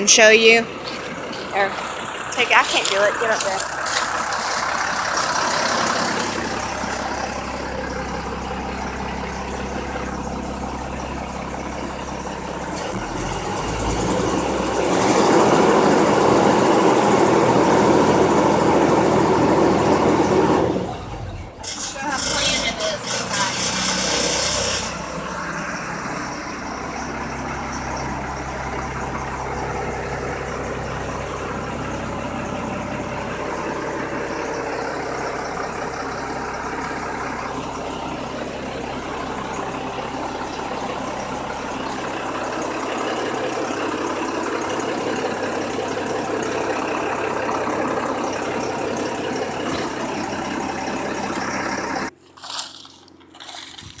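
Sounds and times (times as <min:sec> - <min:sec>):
dump truck engine idling: 0:00.0 - 0:52.4.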